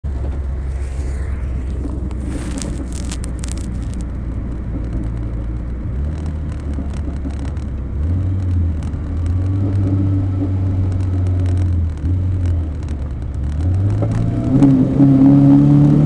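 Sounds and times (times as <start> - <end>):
car engine drone from cabin: 0.1 - 16.0.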